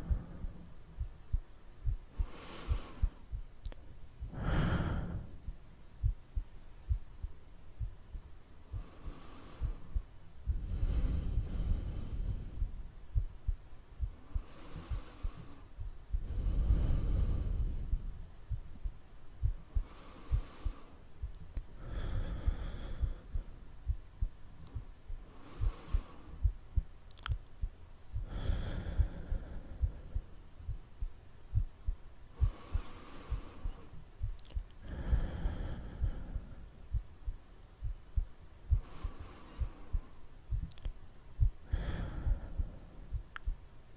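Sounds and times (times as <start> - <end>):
person breathing slowly: 0.0 - 8.0, 8.6 - 43.6
soft low thumps: 0.0 - 43.7.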